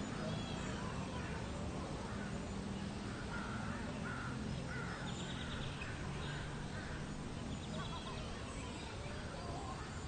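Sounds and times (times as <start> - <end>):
birds calling: 0.0 - 10.0
low background murmur: 0.0 - 10.0.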